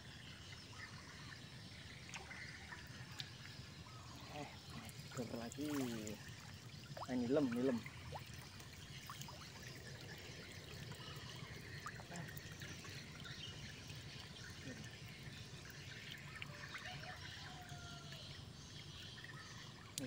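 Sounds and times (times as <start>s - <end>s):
water trickling and dripping: 0.0s - 20.0s.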